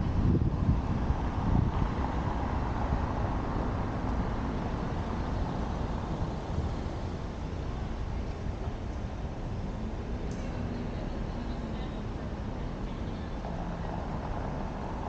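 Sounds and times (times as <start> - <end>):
low rumble of tyres and traffic: 0.0 - 15.0
wind buffeting microphone: 0.0 - 15.0.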